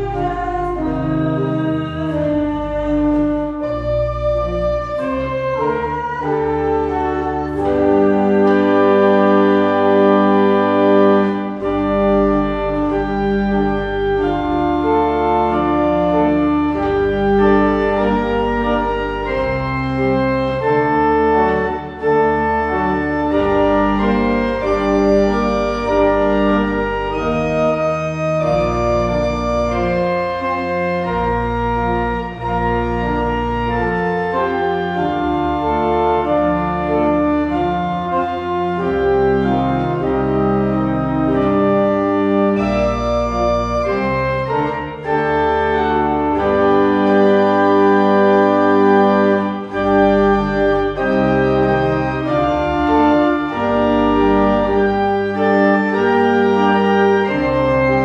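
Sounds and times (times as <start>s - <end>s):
organ playing sustained chords: 0.0s - 58.0s.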